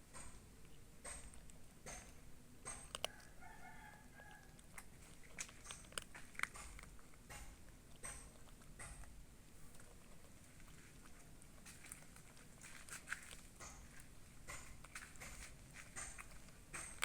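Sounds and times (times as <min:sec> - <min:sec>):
cat crunching food: 0:00.0 - 0:17.0.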